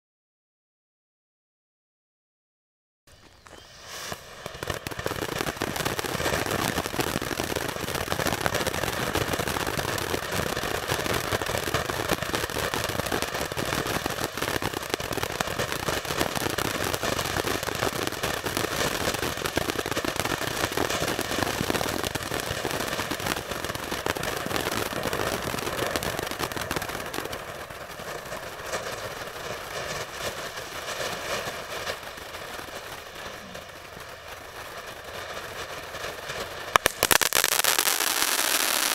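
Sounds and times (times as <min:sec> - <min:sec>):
firework fountain hissing and crackling: 0:03.1 - 0:38.9.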